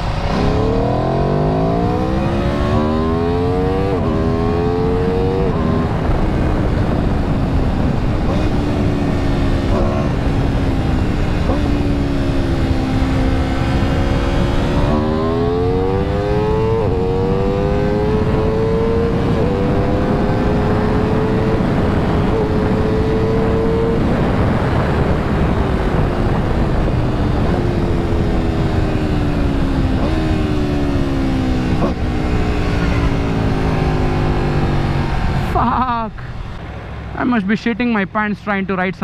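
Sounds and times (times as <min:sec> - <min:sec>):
motorcycle engine accelerating: 0:00.0 - 0:38.1
wind rush: 0:00.0 - 0:38.3.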